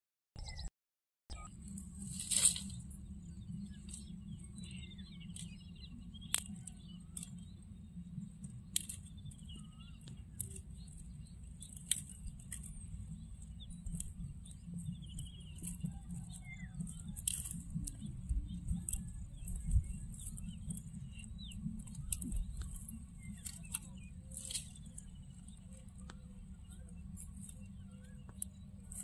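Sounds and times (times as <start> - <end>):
small birds chirping: 0.4 - 0.7, 1.3 - 29.0
steady low rumble: 1.3 - 29.0
dry grass cracking and rustling: 1.6 - 29.0.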